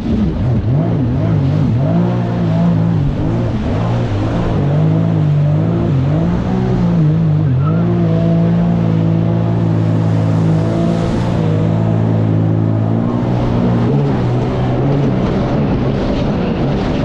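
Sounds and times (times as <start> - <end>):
jet ski engine running hard: 0.0 - 17.0.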